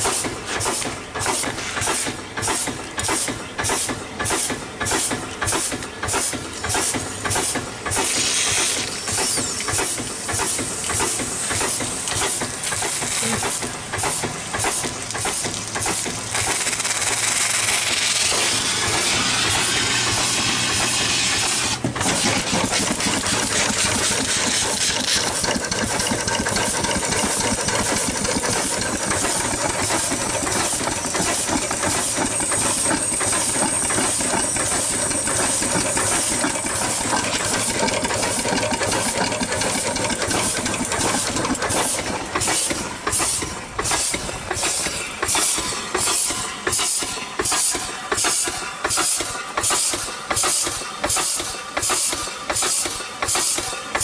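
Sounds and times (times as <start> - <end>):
steam engine exhaust chuffing: 0.0 - 54.0
steam hissing through valve: 0.0 - 54.0.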